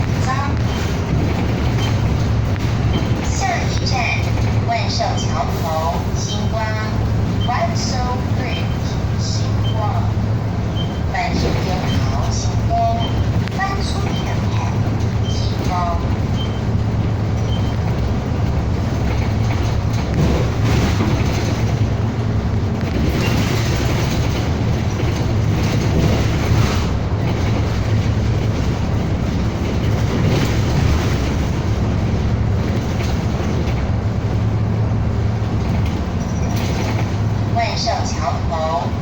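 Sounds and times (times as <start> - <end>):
bus engine drone: 0.0 - 39.0
tyre and road noise: 0.0 - 39.0.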